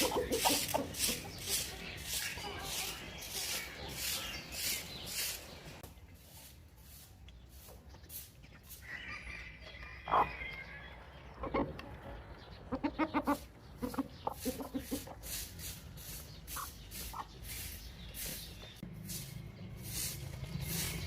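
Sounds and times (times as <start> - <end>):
chickens clucking: 0.0 - 19.1.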